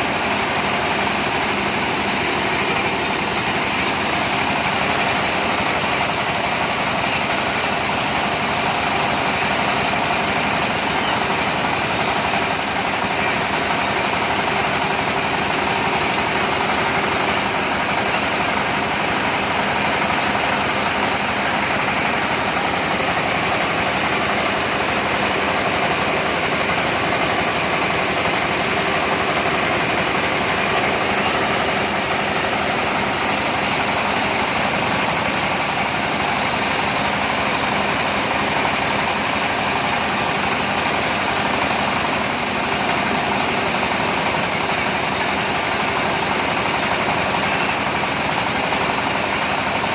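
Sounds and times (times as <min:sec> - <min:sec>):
separator machine droning: 0:00.0 - 0:49.9.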